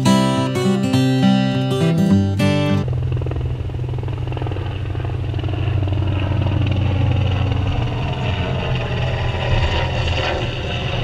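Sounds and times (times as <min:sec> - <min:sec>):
military aircraft engine drone: 0:00.0 - 0:11.0.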